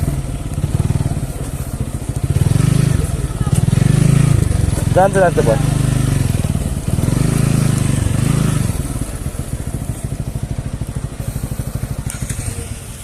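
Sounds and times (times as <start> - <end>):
motorcycle engine: 0.0 - 13.0.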